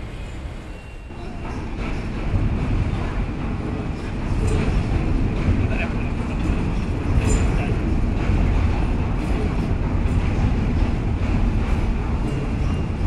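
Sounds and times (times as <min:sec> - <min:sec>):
train rumbling over bridge: 0:00.0 - 0:13.0.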